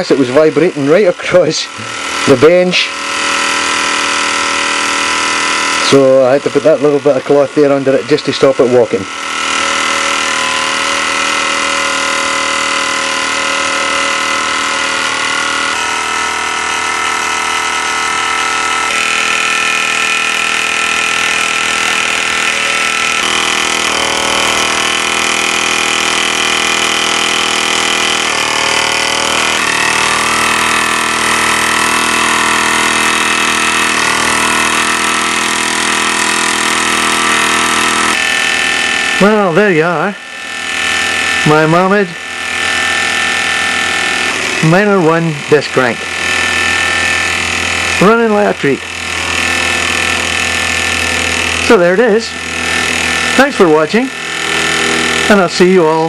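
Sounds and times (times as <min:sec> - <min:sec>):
toy steam engine buzzing: 0:00.0 - 0:56.0.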